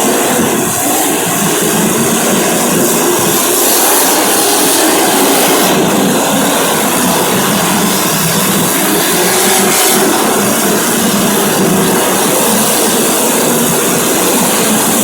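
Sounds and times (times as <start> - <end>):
racing engines droning: 0.0 - 15.0.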